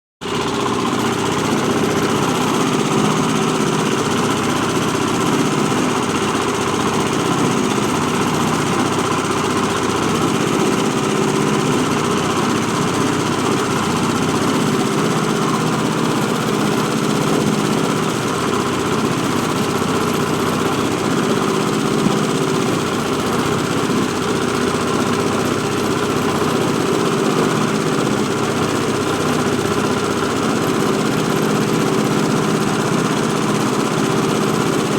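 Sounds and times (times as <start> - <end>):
machine droning: 0.3 - 34.9.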